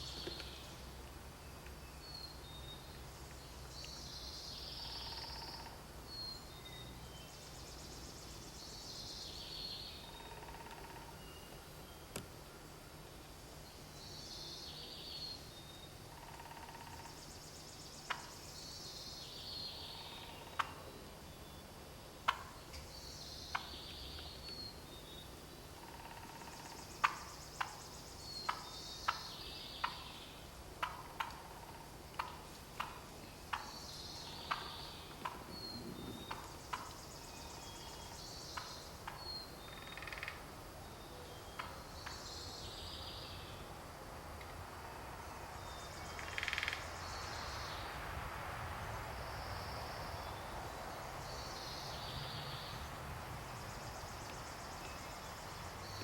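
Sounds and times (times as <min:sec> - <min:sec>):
songbirds singing: 0:00.0 - 0:48.2, 0:48.9 - 0:56.0.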